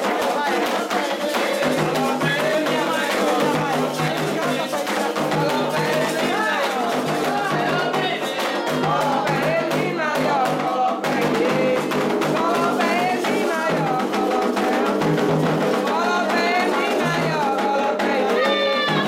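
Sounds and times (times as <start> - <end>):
hand drums beating: 0.0 - 19.0
voices singing: 0.0 - 19.0.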